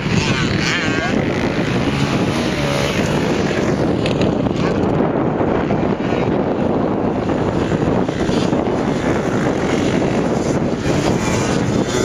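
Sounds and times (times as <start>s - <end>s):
dirt bike engines running: 0.0s - 12.0s
wind buffeting microphone: 0.0s - 12.0s.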